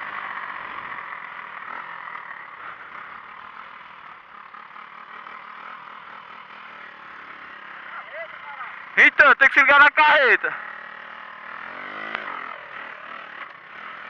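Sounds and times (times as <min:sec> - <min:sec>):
road noise: 0:00.0 - 0:14.0
small motorcycle engine running: 0:00.0 - 0:14.0.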